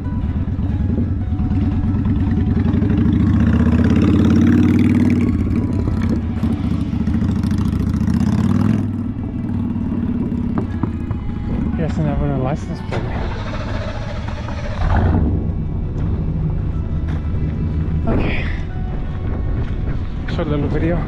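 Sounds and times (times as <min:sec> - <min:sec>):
vehicle engine running: 0:00.0 - 0:20.6.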